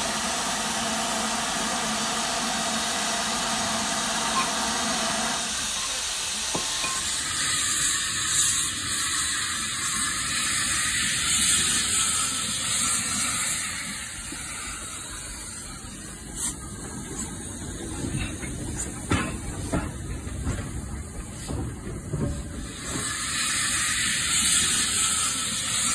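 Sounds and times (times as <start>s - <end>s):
steam hiss: 0.0s - 25.9s.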